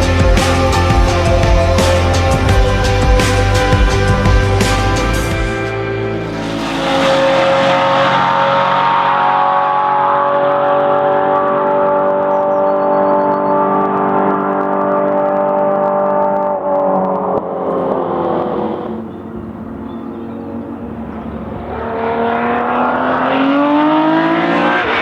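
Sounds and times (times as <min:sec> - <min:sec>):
racing car engine revving: 0:00.0 - 0:12.6, 0:13.8 - 0:25.0.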